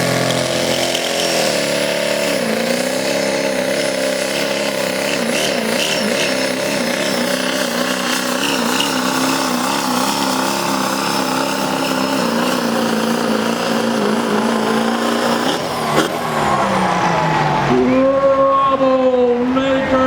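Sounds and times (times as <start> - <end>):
diesel truck engine revving under load: 0.0 - 20.0.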